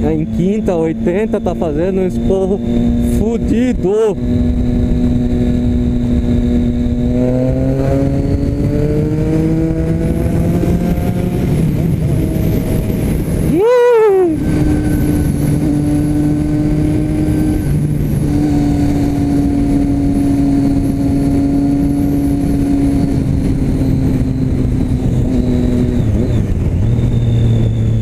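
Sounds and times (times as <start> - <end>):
motorcycle exhaust cruising: 0.0 - 28.0.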